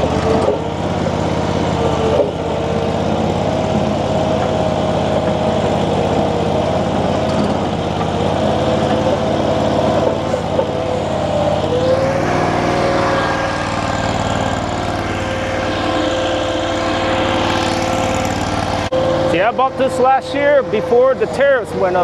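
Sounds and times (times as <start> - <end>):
high whine: 0.0 - 22.0
skid steer engine running: 0.0 - 22.0.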